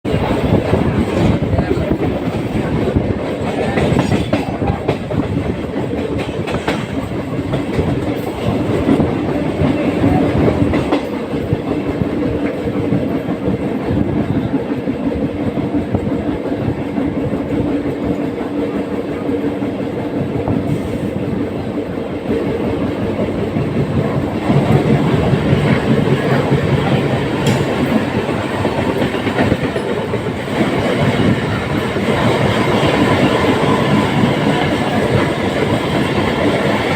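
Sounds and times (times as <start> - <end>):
train wheels clattering: 0.1 - 36.9.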